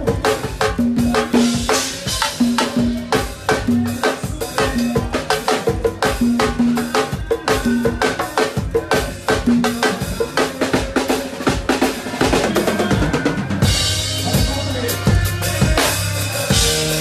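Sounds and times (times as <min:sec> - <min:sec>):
congas: 0:00.0 - 0:17.0
drum fill: 0:00.0 - 0:17.0.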